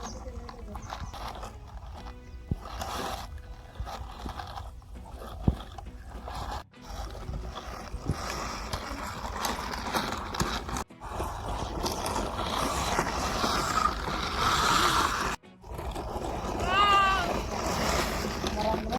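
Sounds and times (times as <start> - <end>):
small motor and gears whirring: 0.0 - 18.9
tyres crunching over dirt: 0.0 - 18.9.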